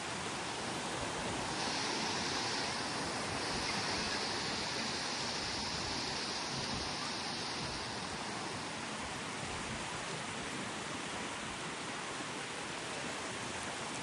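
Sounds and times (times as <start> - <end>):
sea waves breaking: 0.0 - 14.0.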